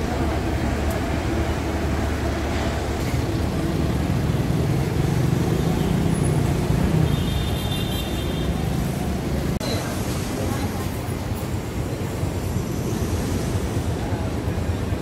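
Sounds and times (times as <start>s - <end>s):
cars passing on street: 0.0s - 15.0s.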